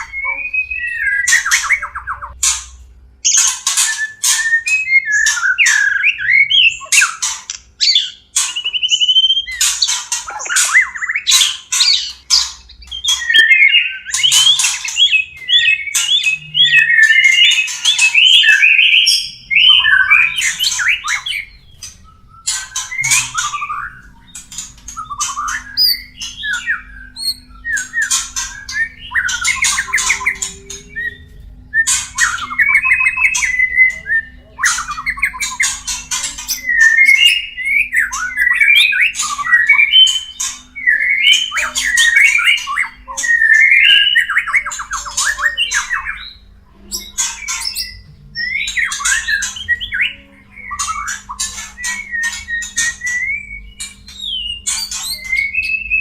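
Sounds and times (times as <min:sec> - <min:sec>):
birds chattering and squawking: 0:00.0 - 0:56.0.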